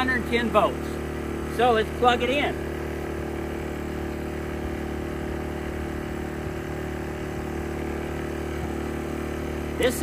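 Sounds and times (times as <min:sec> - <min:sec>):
generator running: 0:00.0 - 0:10.0.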